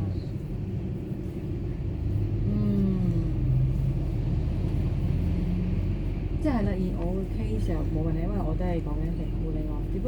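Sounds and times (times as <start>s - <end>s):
car interior rumble: 0.0s - 10.0s.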